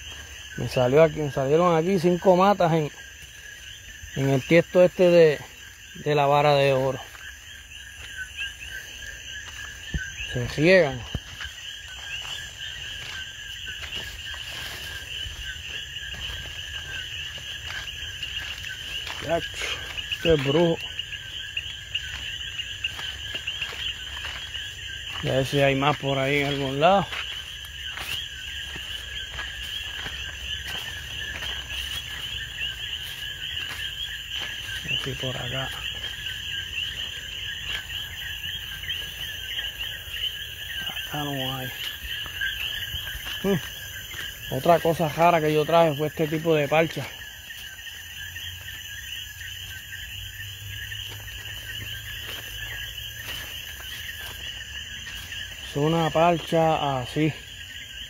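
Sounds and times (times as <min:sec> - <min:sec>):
crickets trilling: 0:00.0 - 0:58.0
insects chirping at night: 0:00.0 - 0:58.0.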